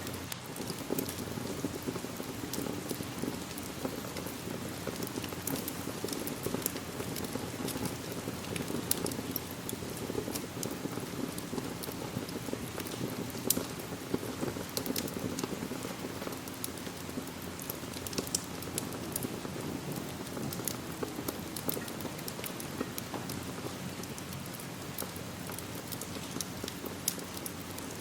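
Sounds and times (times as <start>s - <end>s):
steady rain hiss: 0.0s - 28.0s
wood fire crackling: 0.0s - 28.0s.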